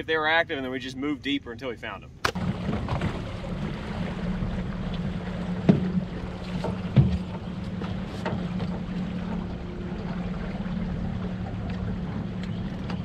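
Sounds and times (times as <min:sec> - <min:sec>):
water noise: 0:00.0 - 0:13.0
wind: 0:00.0 - 0:13.0
boat motor humming: 0:02.3 - 0:13.0.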